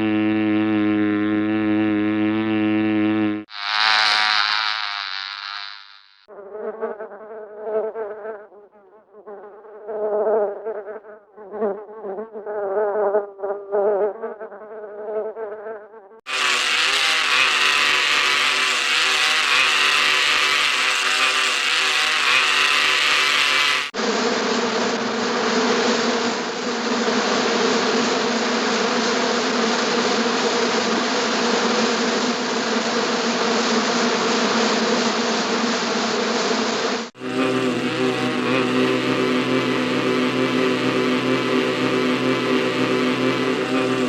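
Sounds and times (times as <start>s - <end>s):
cartoon insect buzzing: 0.0s - 44.0s.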